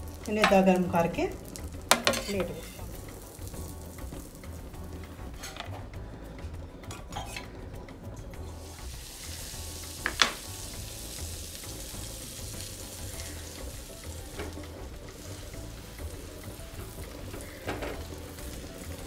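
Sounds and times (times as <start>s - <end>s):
butter sizzling on a pan: 0.0s - 19.0s.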